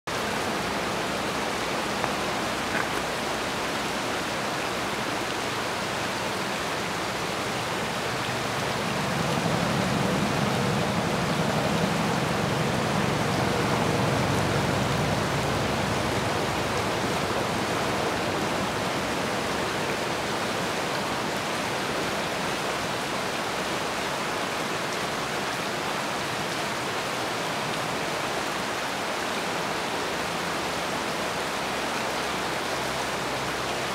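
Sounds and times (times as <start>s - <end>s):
creek flowing over stones: 0.1s - 33.9s.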